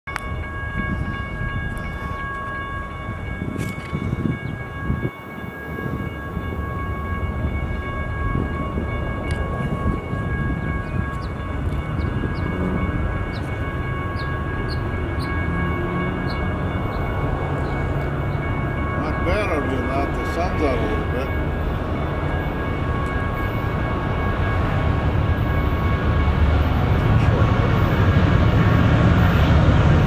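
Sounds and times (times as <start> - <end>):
steady high-pitched tones: 0.1 - 30.0
train rumble: 0.1 - 30.0.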